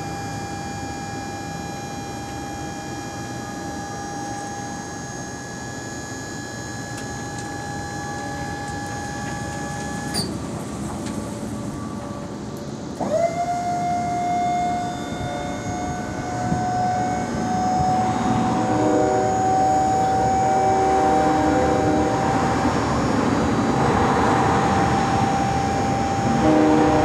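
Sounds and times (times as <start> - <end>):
electric lift motor whining: 0.0 - 27.0.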